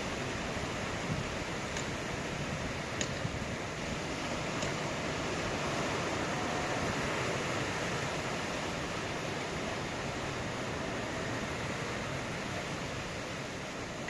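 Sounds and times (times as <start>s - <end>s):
ocean surf washing: 0.0s - 14.0s
wind: 0.0s - 14.0s.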